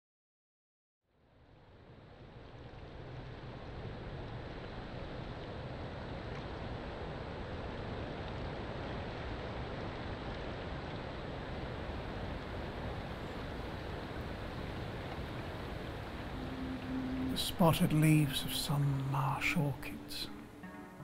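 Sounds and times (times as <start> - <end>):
rushing water: 1.9 - 21.0.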